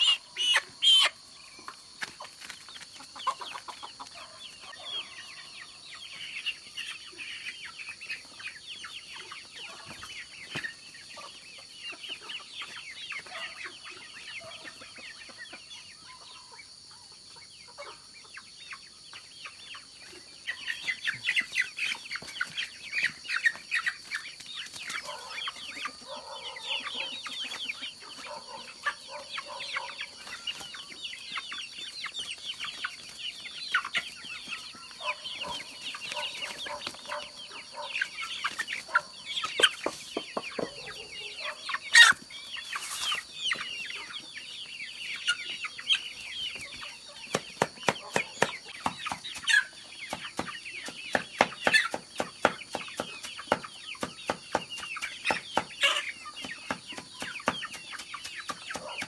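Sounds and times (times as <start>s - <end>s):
chickens clucking and chirping: 0.0s - 59.0s.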